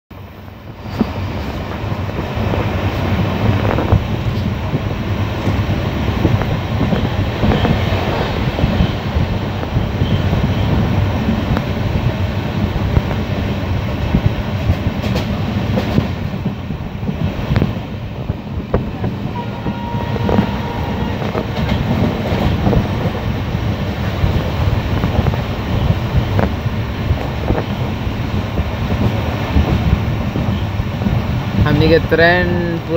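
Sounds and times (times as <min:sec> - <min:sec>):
train wheels rumbling on rails: 0:00.1 - 0:32.9
rail clicks and knocks: 0:00.7 - 0:32.9.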